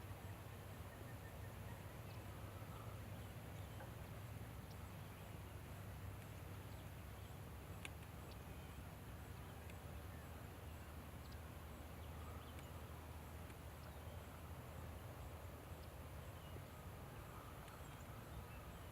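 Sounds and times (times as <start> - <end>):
faint high chirps and ticks: 0.1 - 18.9.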